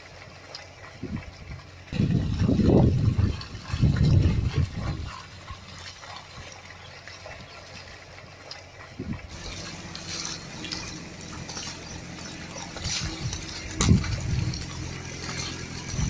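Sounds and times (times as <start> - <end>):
hooves squelching in mud: 0.0 - 16.0
mud and water sloshing: 0.0 - 16.0.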